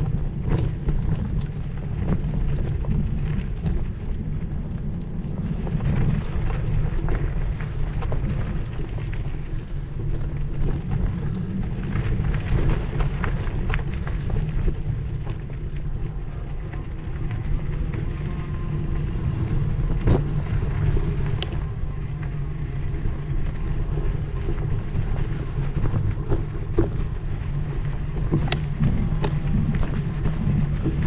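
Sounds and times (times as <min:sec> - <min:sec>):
bike rattling over rough trail: 0:00.0 - 0:31.0
wind rumble on microphone: 0:00.0 - 0:31.0.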